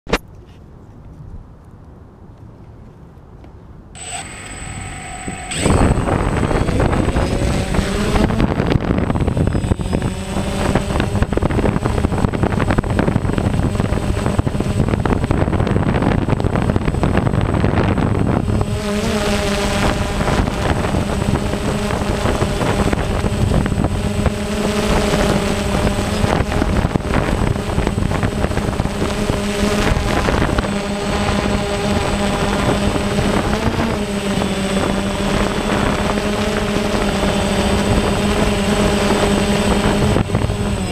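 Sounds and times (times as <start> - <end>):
drone propellers buzzing: 4.0 - 40.9.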